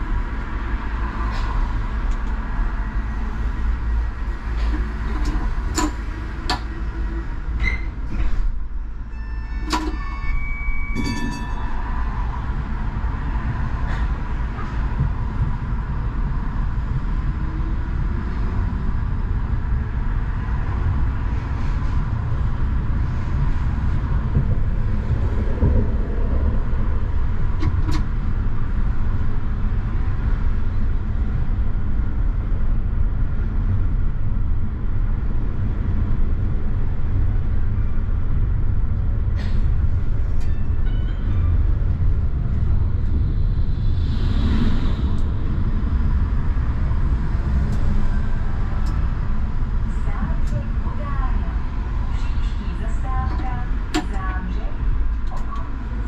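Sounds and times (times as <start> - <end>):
tram drive whine: 0.0 - 56.0
tram wheels rumbling on rails: 0.0 - 56.0.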